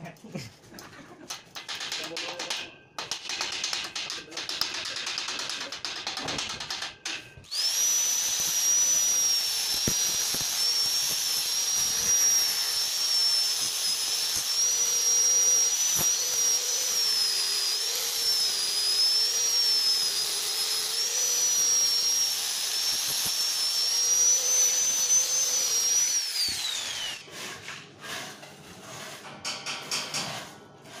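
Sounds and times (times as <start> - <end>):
angle grinder grinding steel: 1.7 - 29.2.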